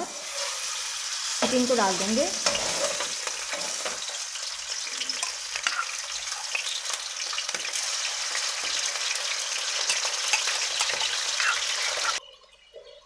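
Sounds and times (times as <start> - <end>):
chicken sizzling in hot oil: 0.0 - 12.2.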